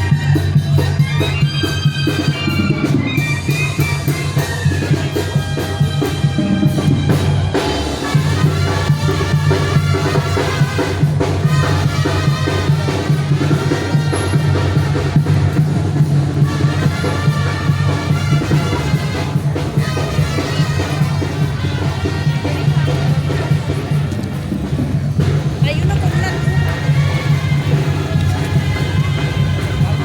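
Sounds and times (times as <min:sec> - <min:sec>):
trumpets and saxophones melody: 0:00.0 - 0:24.6, 0:25.2 - 0:30.0
bass drum steady beat: 0:00.0 - 0:30.0.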